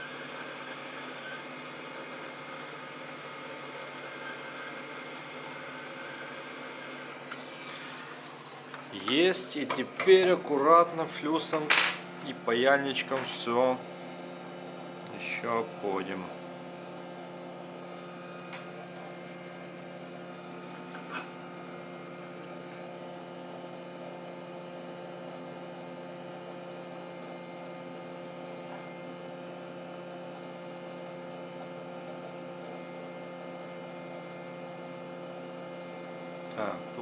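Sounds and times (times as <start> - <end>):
steady electrical hum: 4.8 - 37.0.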